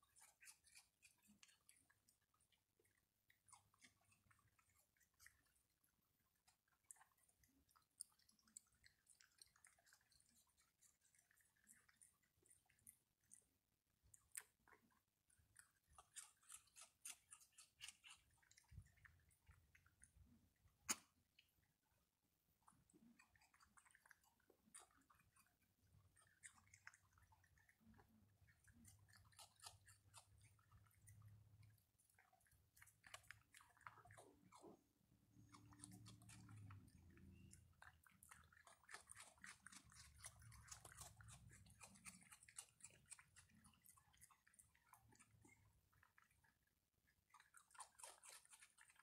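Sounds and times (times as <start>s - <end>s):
raccoons chewing and crunching: 0.0s - 49.0s.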